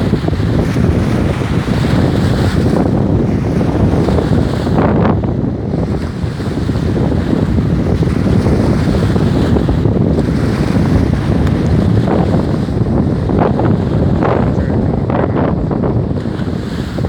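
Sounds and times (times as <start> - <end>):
waves breaking on shore: 0.0 - 17.0
wind on microphone: 0.0 - 17.0.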